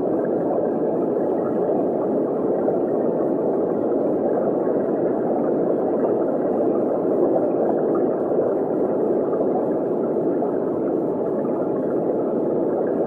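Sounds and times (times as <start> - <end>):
muffled underwater water rush: 0.0 - 13.0.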